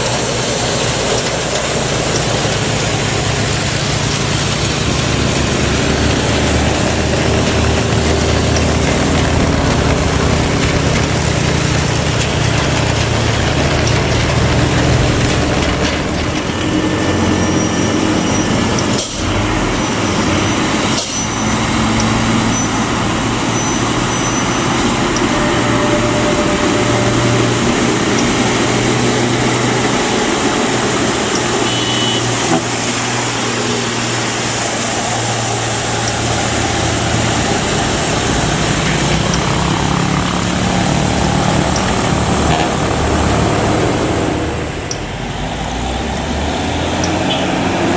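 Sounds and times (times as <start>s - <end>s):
diesel truck engine climbing: 0.0s - 47.9s.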